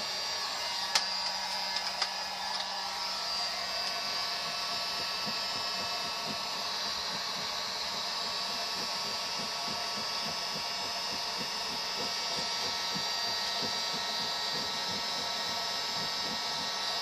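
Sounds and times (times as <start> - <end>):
electric blower motor whirring: 0.0 - 17.0.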